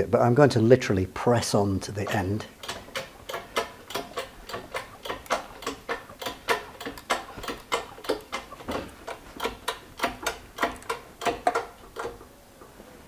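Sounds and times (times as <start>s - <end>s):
hydraulic press pump clicking: 2.1s - 12.7s.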